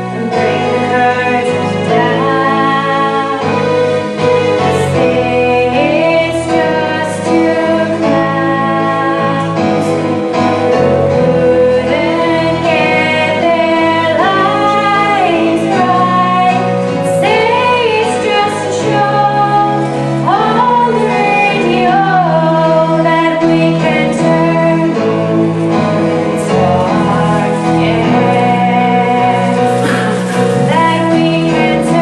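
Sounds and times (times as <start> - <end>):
woman singing a melody: 0.0 - 32.0.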